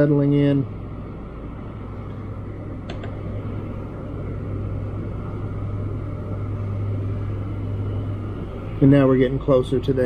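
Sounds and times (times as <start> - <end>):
electric space heater humming: 0.0 - 10.0
portable power station running: 0.0 - 10.0.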